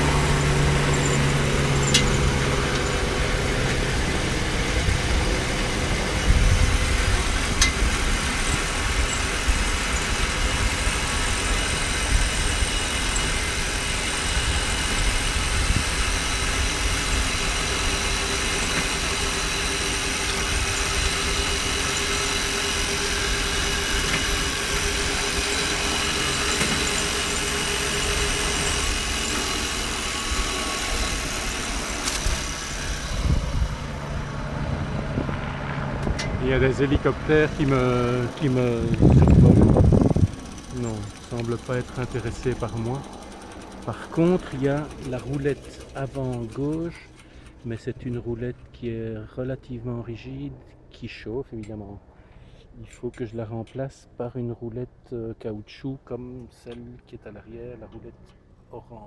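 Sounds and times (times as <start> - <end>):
trolley wheels rumbling on rails: 0.0 - 48.8
steady whine: 0.0 - 53.4.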